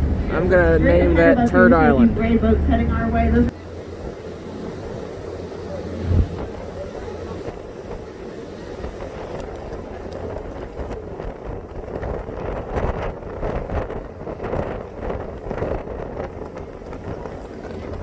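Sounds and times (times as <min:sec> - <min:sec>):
boat engine running: 0:00.0 - 0:18.0
wind buffeting microphone: 0:00.0 - 0:18.0.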